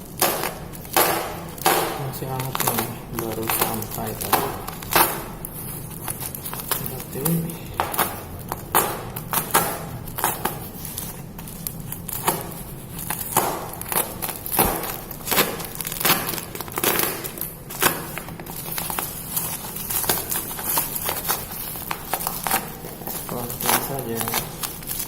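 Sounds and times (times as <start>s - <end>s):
wrapping crinkling and tearing: 0.0s - 25.0s.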